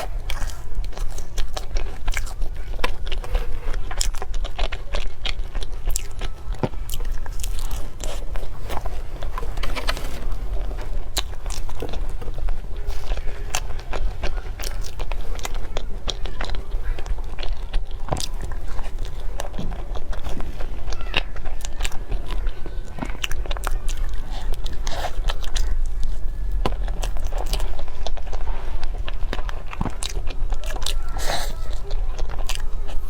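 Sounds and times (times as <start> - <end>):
person chewing: 0.0 - 33.0.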